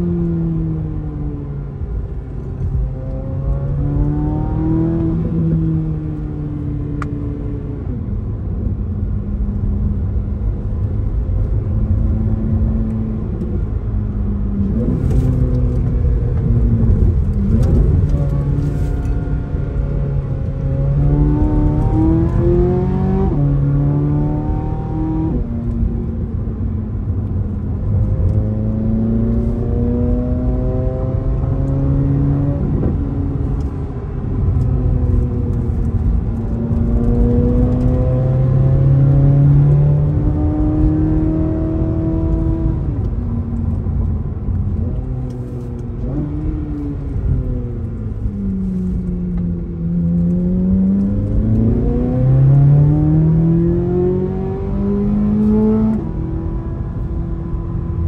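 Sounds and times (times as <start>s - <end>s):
road noise: 0.0s - 58.0s
car engine revving: 1.9s - 7.5s, 10.5s - 26.2s, 27.1s - 58.0s.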